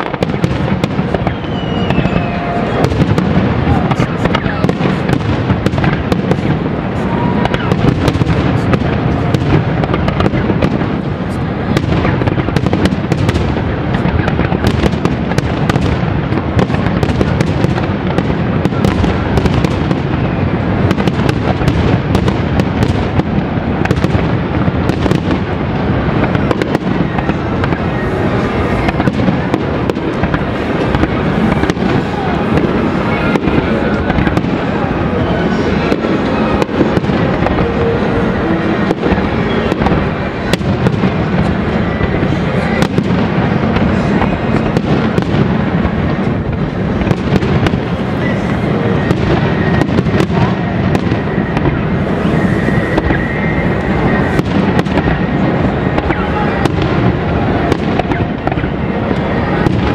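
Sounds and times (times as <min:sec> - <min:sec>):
fireworks bursting and crackling: 0:00.0 - 0:59.9
sharp firework bangs: 0:00.0 - 0:59.9.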